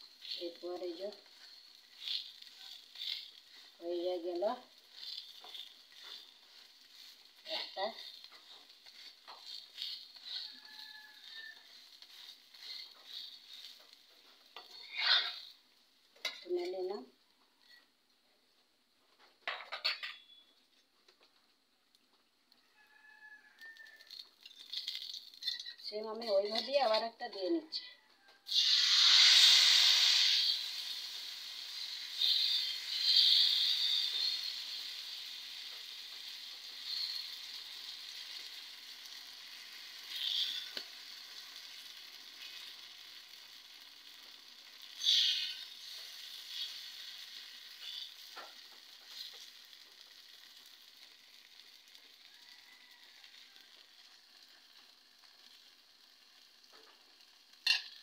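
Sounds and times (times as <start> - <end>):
batter sizzling in hot oil: 0.0 - 17.8, 22.6 - 27.4, 28.4 - 58.0.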